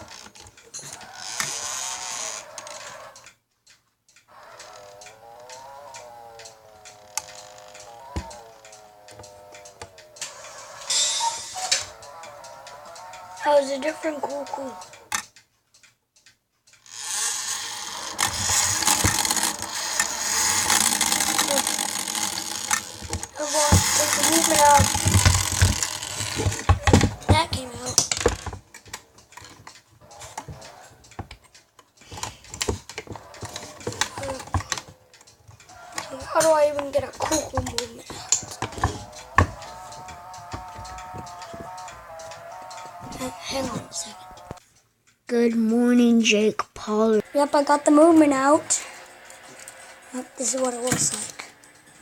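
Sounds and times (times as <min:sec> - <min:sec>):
clicks and taps from clock movement: 0:00.0 - 0:52.0.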